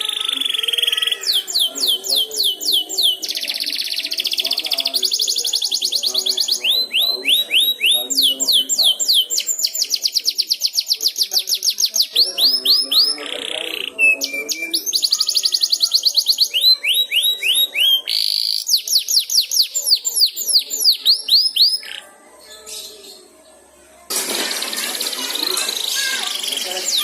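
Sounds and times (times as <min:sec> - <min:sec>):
canary singing: 0:00.0 - 0:23.3, 0:25.4 - 0:27.0.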